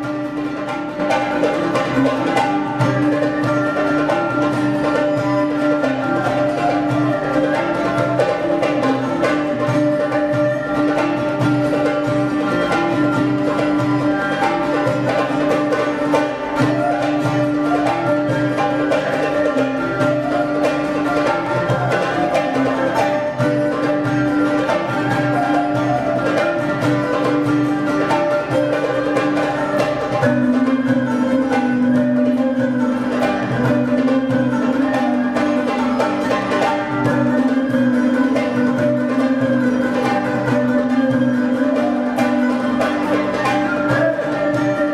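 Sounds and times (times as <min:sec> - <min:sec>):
bowed and plucked strings: 0:00.0 - 0:44.9
hand drum percussion: 0:00.0 - 0:44.9.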